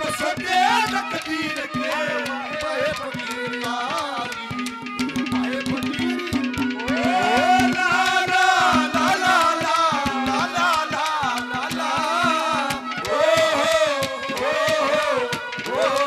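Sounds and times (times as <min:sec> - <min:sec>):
hand drum strokes: 0:00.0 - 0:16.0.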